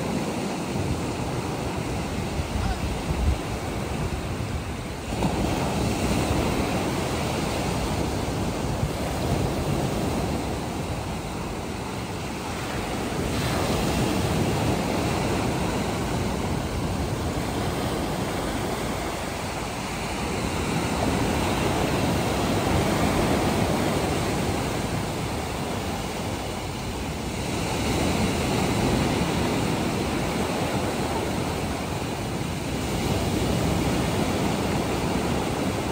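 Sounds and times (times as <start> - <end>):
sea waves breaking on beach: 0.0 - 35.9.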